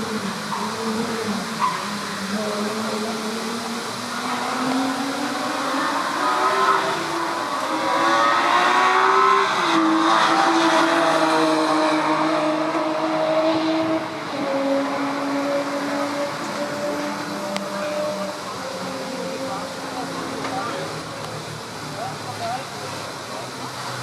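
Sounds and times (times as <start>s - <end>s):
race car engines at speed: 0.0s - 24.0s.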